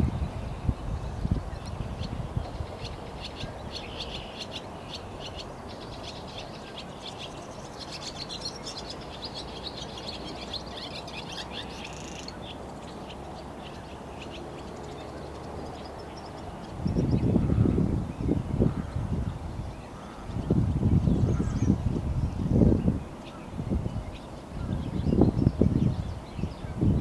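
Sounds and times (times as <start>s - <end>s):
songbirds singing and chirping: 0.0s - 27.0s.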